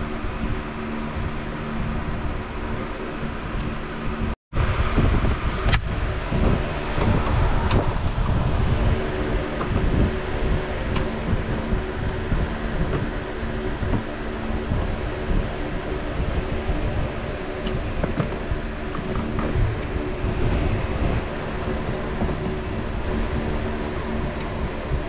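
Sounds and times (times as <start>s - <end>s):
mechanical hum with rumble: 0.0s - 25.0s
steady tones: 0.0s - 25.0s.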